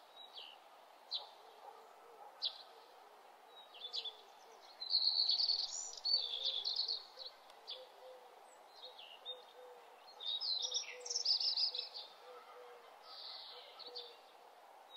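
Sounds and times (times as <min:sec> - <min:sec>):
faint steady hiss: 0:00.0 - 0:14.9
songbirds chirping and trilling: 0:00.0 - 0:14.9.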